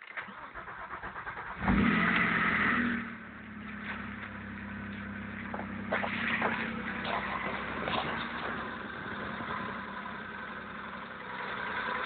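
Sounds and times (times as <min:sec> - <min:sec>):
car engine revving and idling: 0:00.3 - 0:12.0.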